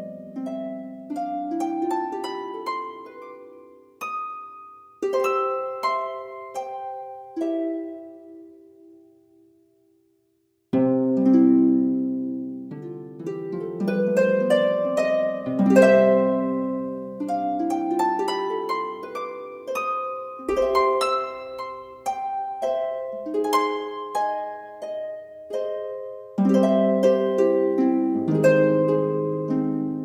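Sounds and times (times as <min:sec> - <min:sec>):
plucked harp melody: 0:00.0 - 0:09.6, 0:10.7 - 0:30.0.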